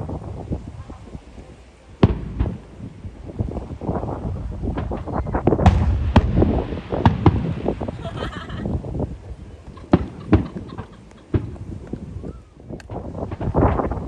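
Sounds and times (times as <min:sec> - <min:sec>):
fireworks bangs and crackling: 0:00.0 - 0:14.0
fireworks booms: 0:02.0 - 0:14.0.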